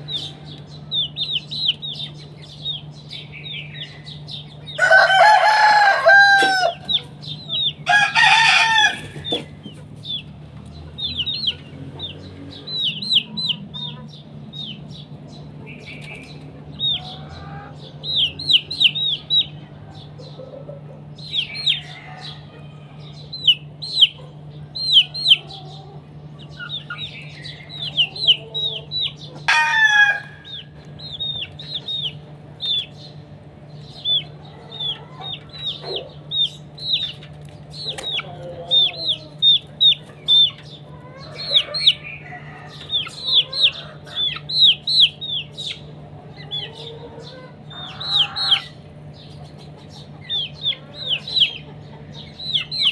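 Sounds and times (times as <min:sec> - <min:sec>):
adult chicken calling: 0:00.0 - 0:10.3, 0:16.8 - 0:33.2, 0:33.9 - 0:37.2, 0:37.8 - 0:52.9
chickens clucking: 0:00.0 - 0:52.9
chicks peeping: 0:00.0 - 0:52.9.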